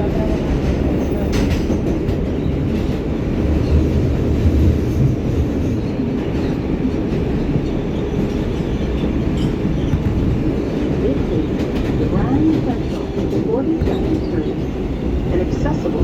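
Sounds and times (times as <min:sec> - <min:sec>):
subway wheels rumbling on rails: 0:00.0 - 0:16.0.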